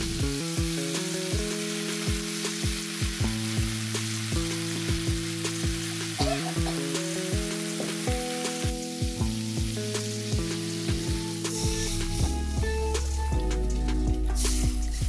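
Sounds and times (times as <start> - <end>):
background music with thumping beat: 0.0 - 15.0
food sizzling in a pan: 0.0 - 15.0.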